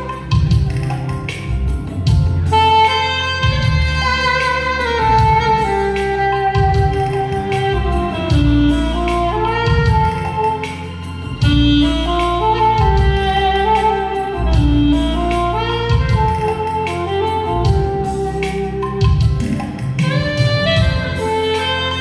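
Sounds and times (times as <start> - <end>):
backing track drum beat: 0.0 - 22.0
saxophone melody: 0.0 - 22.0.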